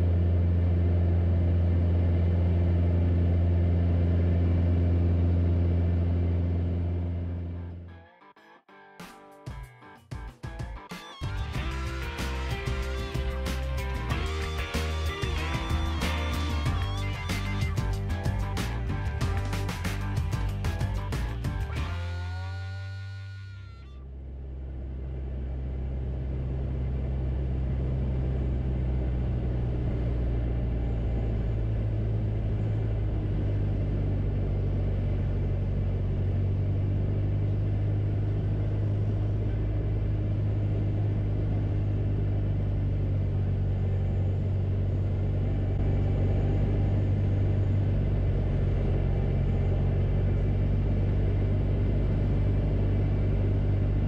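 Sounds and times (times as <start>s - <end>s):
propeller airplane engine drone: 0.0s - 8.1s, 10.8s - 54.0s.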